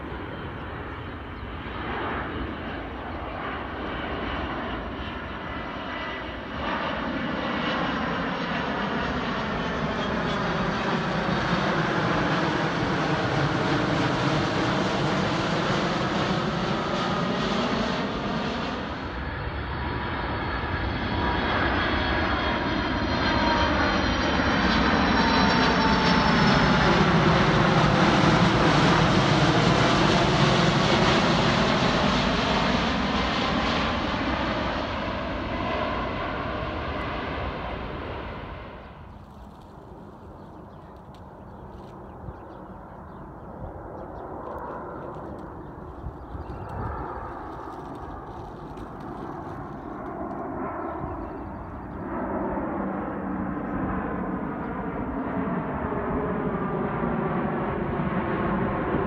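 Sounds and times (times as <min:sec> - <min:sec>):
distant jet: 0:00.0 - 0:59.0
jet airliner passing overhead: 0:00.0 - 0:59.0.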